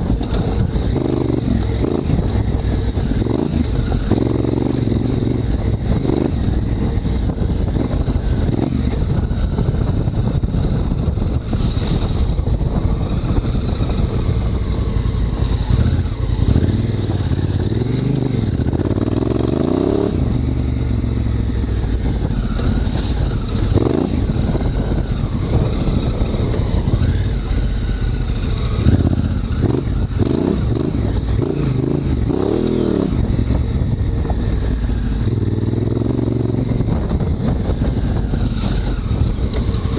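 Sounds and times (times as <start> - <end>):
continuous low rumble: 0.0 - 39.9
motorcycle engine revving: 0.0 - 39.9.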